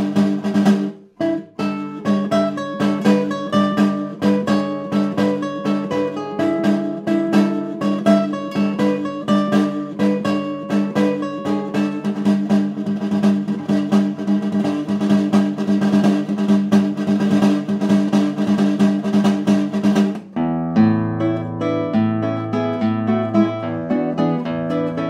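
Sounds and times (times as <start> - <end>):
classical guitar playing: 0.0 - 25.0.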